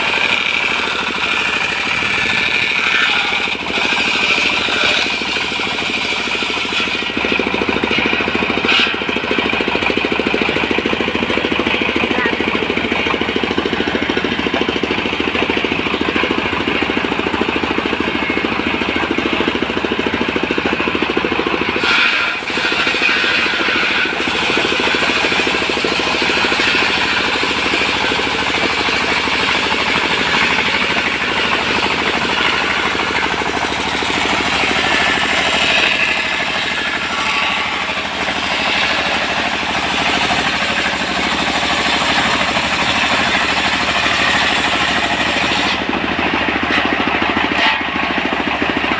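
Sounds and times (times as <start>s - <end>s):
portable sawmill running: 0.0s - 48.9s.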